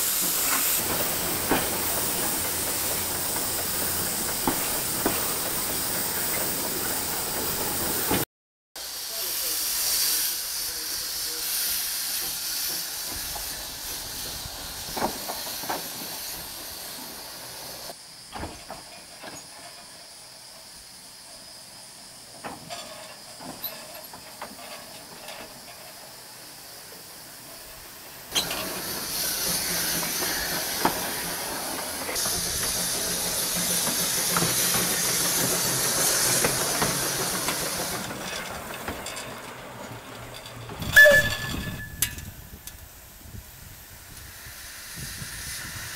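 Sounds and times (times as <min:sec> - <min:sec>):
steam locomotive hissing steam: 0:00.0 - 0:45.9.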